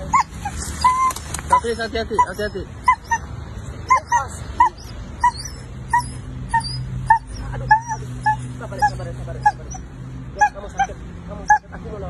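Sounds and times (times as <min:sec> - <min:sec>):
dog whimpering: 0:00.0 - 0:11.8.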